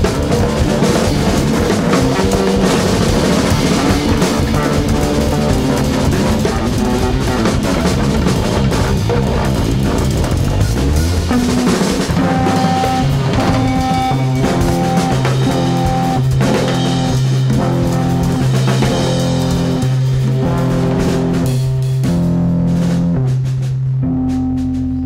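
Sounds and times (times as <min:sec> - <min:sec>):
drum kit with cymbals: 0:00.0 - 0:25.0
electric guitar: 0:00.0 - 0:25.0
low held notes: 0:00.0 - 0:25.0.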